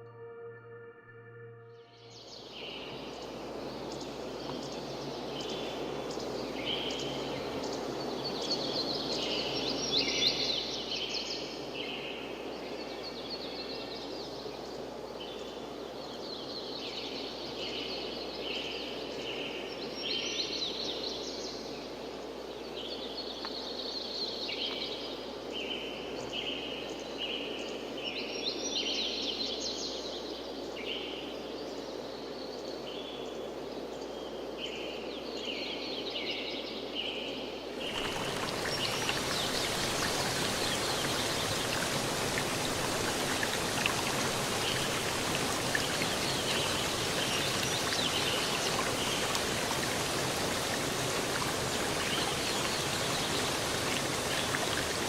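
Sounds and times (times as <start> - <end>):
songbirds singing: 2.1 - 55.0.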